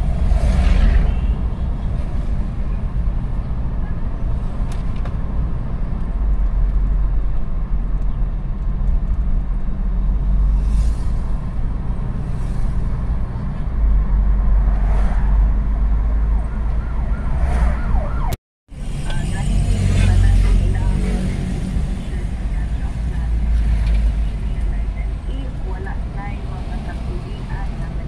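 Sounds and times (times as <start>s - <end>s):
car engine and tyre rumble: 0.0s - 28.0s
passing traffic swishes: 0.0s - 28.0s.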